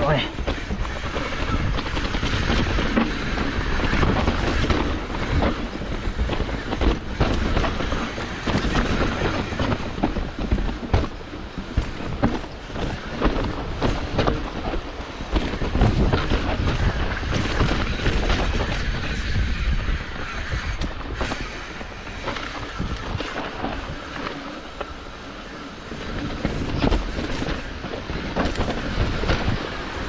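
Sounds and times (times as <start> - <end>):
bike tyres rumbling on dirt: 0.0 - 30.0.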